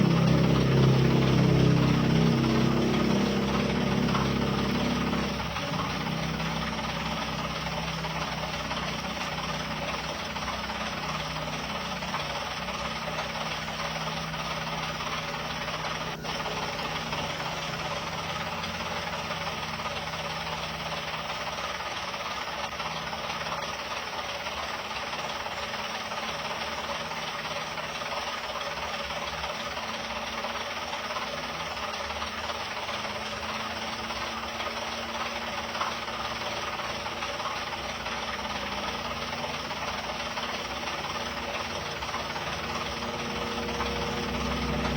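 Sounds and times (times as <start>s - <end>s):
heavy vehicle engine rattling: 0.0s - 44.9s.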